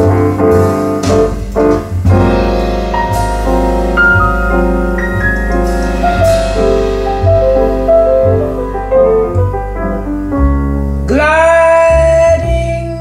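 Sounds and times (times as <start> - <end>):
jazz piano: 0.0 - 13.0
low bass notes: 0.0 - 13.0.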